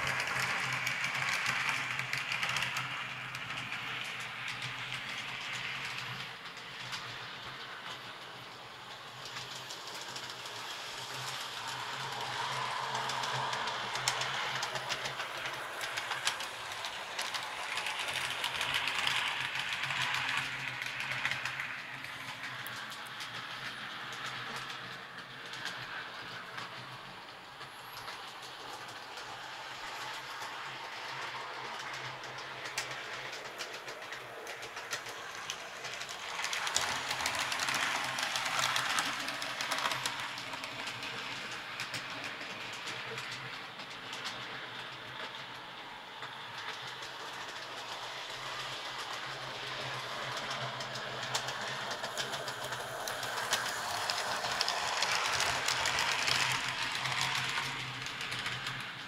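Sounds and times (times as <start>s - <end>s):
model train whirring: 0.0s - 59.0s
wheels clicking over rail joints: 0.0s - 59.0s.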